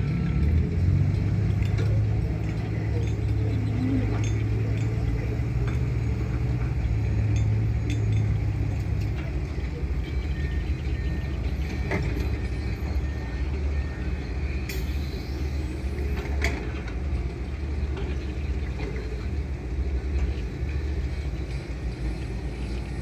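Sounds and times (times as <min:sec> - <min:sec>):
excavator diesel engines rumbling: 0:00.0 - 0:23.0.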